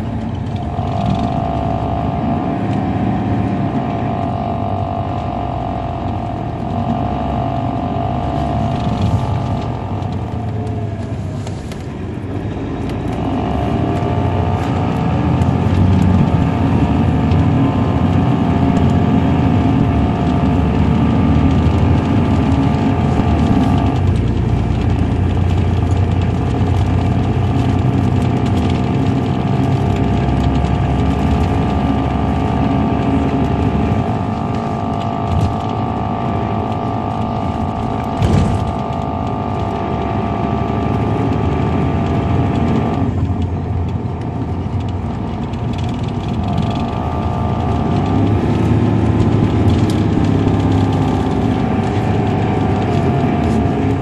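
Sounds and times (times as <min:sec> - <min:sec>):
coach diesel engine: 0:00.0 - 0:54.0.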